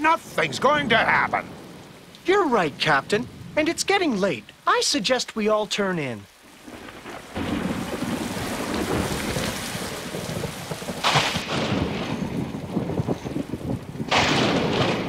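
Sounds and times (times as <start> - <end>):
thunder rumbling: 0.0 - 4.7, 6.4 - 15.0
heavy rain pouring: 0.0 - 15.0.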